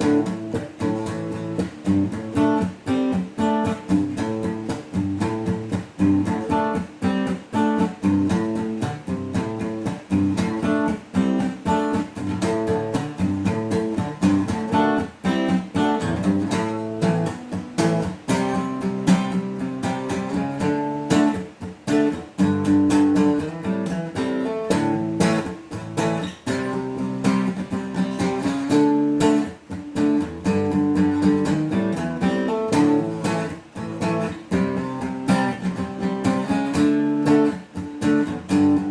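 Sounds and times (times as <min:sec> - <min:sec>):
acoustic guitar chords strummed: 0:00.0 - 0:38.9.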